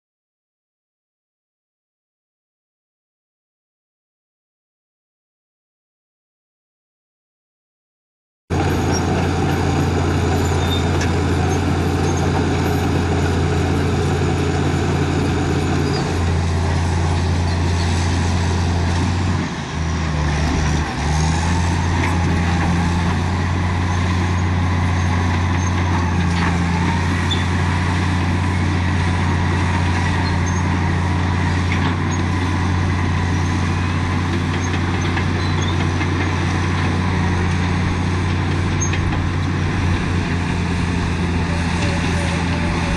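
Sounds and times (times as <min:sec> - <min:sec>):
bulldozer diesel engine droning: 0:08.5 - 0:42.9.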